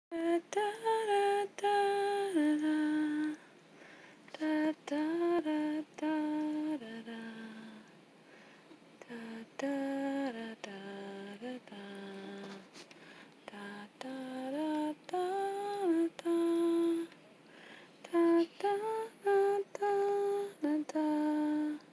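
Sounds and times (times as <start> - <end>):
person humming a lullaby: 0.1 - 3.5, 4.4 - 7.9, 9.0 - 12.7, 13.5 - 17.1, 18.1 - 21.9.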